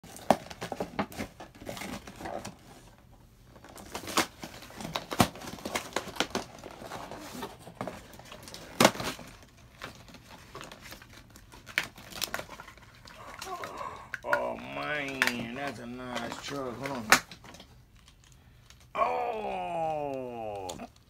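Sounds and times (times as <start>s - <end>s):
plastic packaging crinkling: 0.0s - 21.0s.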